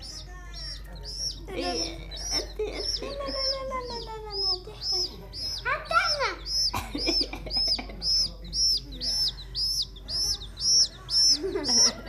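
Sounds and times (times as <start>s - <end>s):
baby chick peeping: 0.0s - 12.0s.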